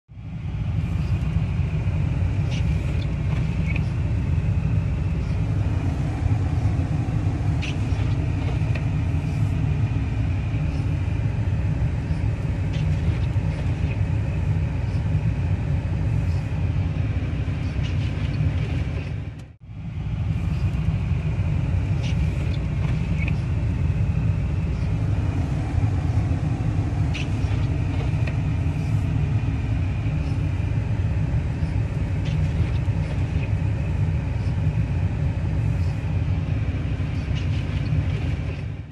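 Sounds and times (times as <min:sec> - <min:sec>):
truck engine idling: 0:00.1 - 0:38.9
heater running: 0:00.2 - 0:38.9.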